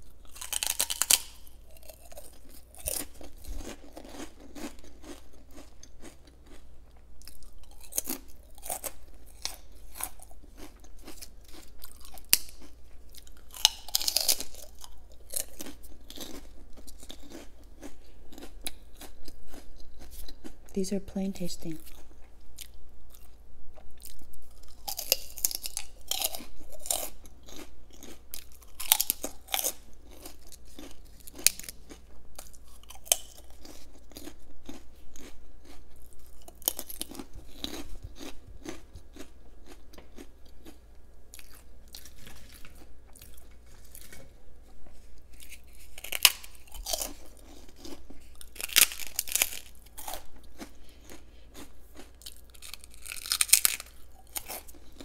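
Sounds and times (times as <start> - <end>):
crunching prawn crackers: 0.0 - 20.7, 21.8 - 44.4, 45.2 - 55.0
person chewing: 0.0 - 20.7, 21.7 - 55.0.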